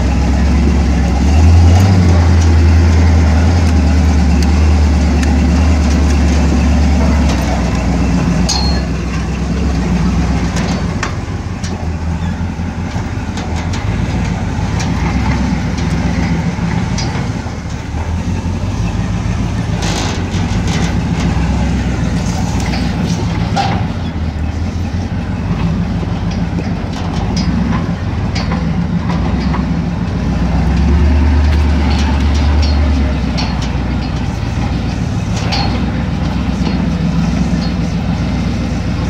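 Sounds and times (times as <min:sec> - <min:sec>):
vehicle engine running at low speed: 0:00.0 - 0:39.0.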